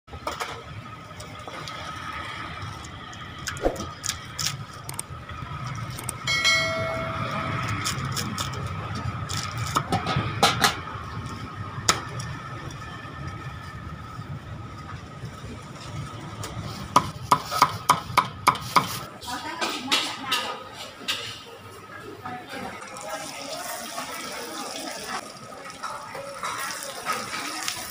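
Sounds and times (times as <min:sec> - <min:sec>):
steady background noise: 0:00.1 - 0:27.9.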